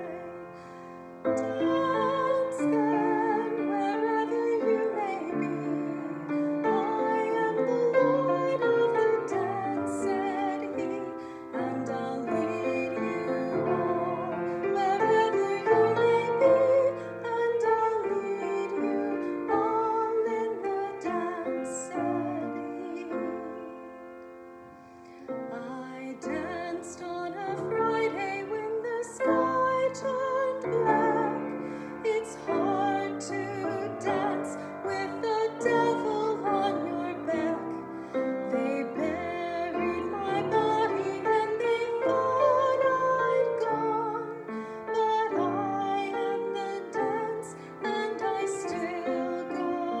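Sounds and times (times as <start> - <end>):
woman singing a hymn: 0.0 - 24.2, 25.1 - 50.0
grand piano accompaniment: 0.0 - 50.0.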